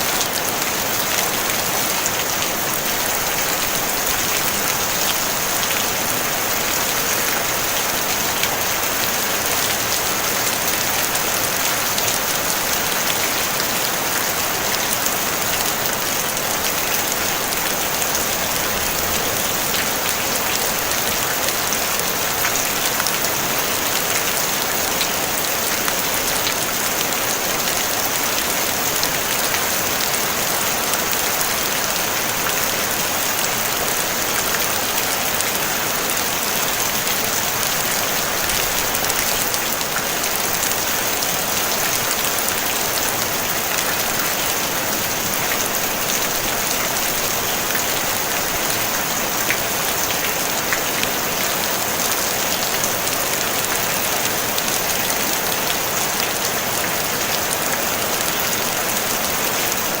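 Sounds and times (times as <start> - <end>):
rain on a tin roof: 0.0 - 60.0.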